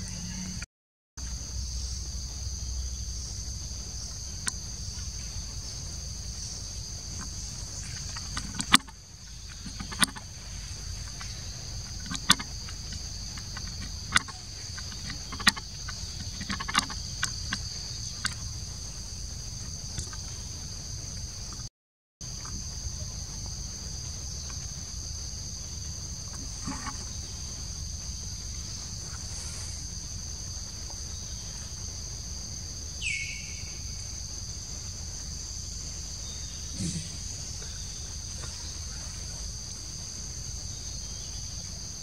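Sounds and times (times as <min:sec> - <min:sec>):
insects buzzing: 0:00.0 - 0:42.0.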